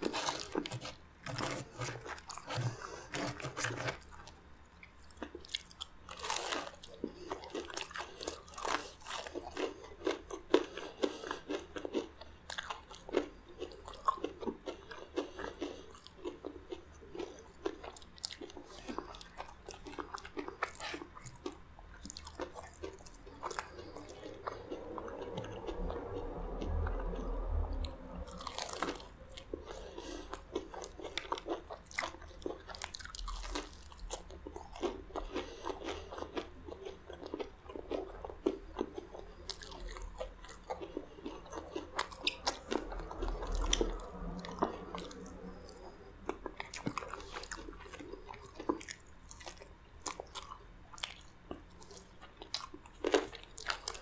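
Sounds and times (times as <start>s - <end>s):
crunching fried chicken: 0.0s - 4.4s, 5.0s - 54.0s.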